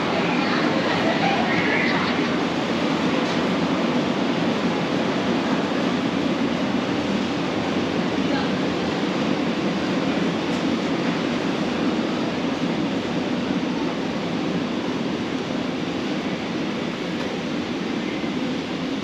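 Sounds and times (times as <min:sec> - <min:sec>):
rumbling warehouse interior noise: 0:00.0 - 0:19.0.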